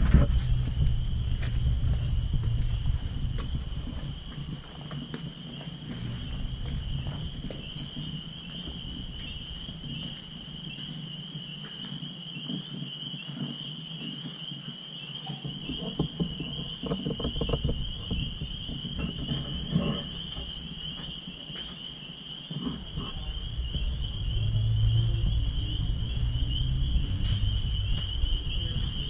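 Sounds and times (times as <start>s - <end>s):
footsteps crunching on debris: 0.0s - 14.8s, 15.5s - 22.1s, 27.0s - 29.0s
high-pitched whine: 0.0s - 21.8s, 22.6s - 29.0s.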